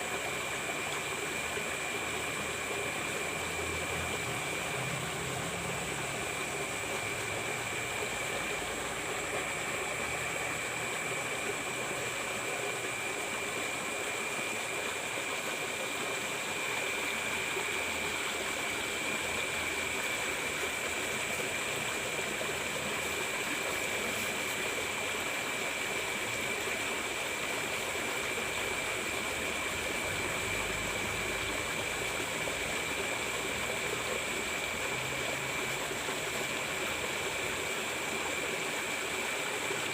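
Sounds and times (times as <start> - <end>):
water rushing in ditch: 0.0 - 39.9.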